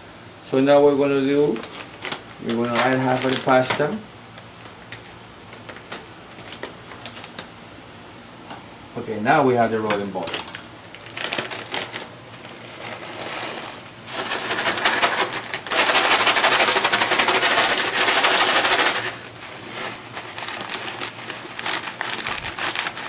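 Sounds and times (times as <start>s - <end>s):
plastic packet crinkling: 1.3s - 7.5s, 10.2s - 23.0s.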